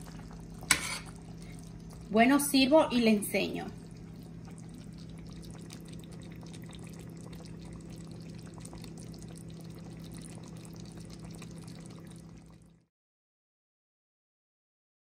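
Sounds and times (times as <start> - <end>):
stew bubbling and crackling: 0.0 - 12.9.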